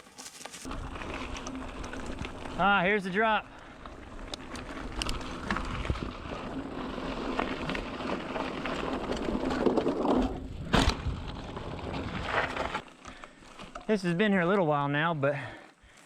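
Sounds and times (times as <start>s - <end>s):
bike tyres rolling on dirt: 0.0s - 16.0s
bike rattling and clicking: 0.2s - 14.0s.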